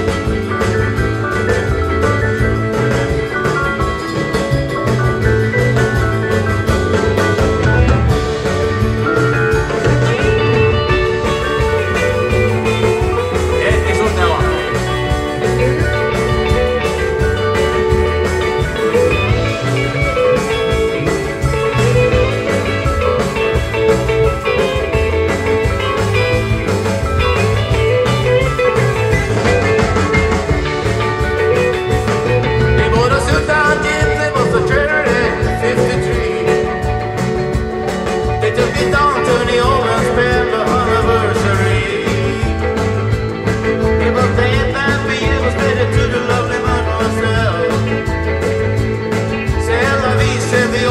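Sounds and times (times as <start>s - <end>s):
bass and steady beat: 0.0s - 50.9s
electric guitars: 0.0s - 50.9s.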